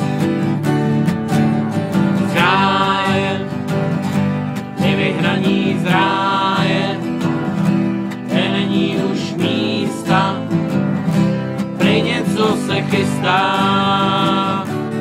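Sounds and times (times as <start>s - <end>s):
acoustic guitar strumming: 0.0s - 15.0s
men singing folk song: 2.1s - 15.0s.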